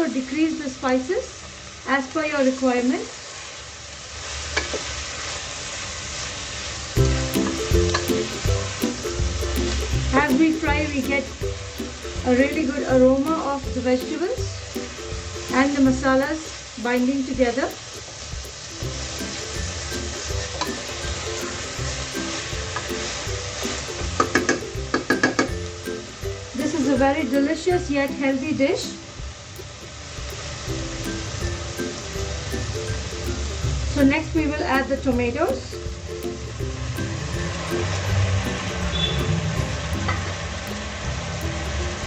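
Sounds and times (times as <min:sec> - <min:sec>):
background music with bass: 0:07.0 - 0:42.0.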